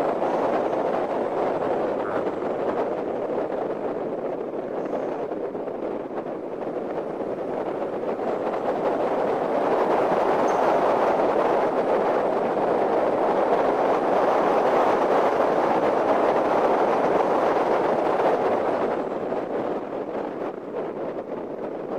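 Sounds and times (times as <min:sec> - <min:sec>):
road and wind noise: 0:00.0 - 0:21.9.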